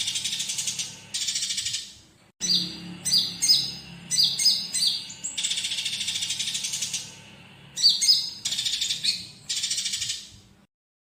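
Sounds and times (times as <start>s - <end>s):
sunbird singing chirps and trill: 0.0s - 10.4s.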